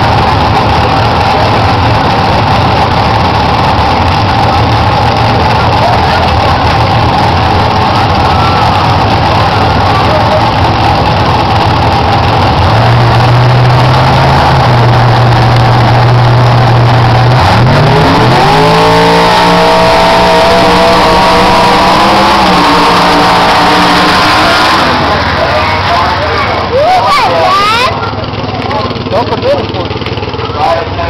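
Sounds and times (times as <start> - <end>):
truck engine running loud: 0.0 - 31.0.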